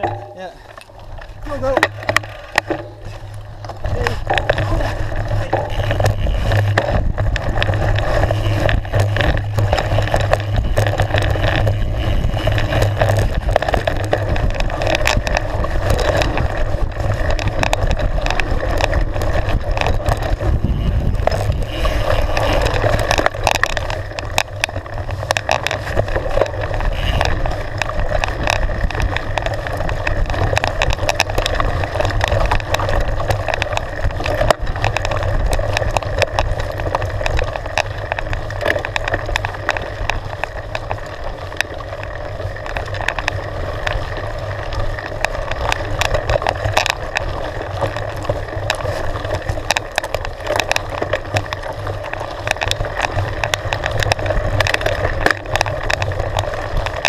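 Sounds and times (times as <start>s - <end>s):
bike rattling and knocking: 0.0s - 57.0s
tyres rumbling over dirt: 0.0s - 57.0s.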